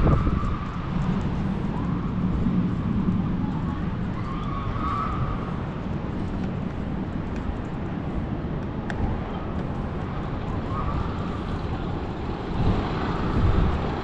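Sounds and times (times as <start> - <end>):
road traffic: 0.0 - 14.0
wind on microphone: 0.0 - 14.0.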